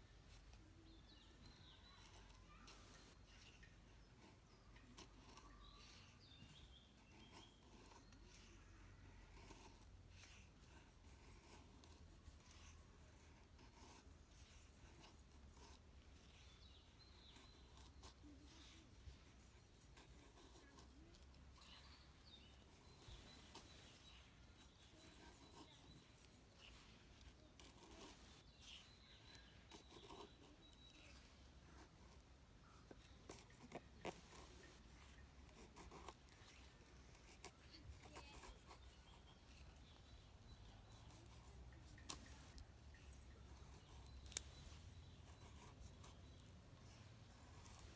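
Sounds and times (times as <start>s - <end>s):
hand scraping and rubbing strokes: 0.0s - 47.9s.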